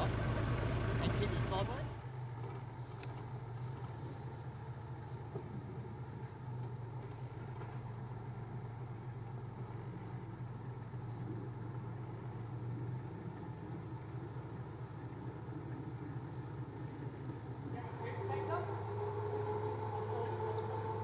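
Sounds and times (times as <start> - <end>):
four-wheel drive engine running: 0.0 - 21.0.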